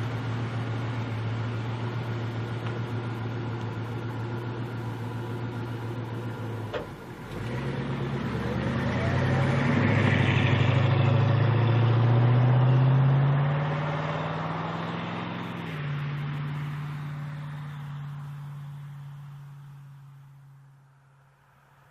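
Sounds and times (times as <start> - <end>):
car engine idling and revving: 0.0 - 21.9.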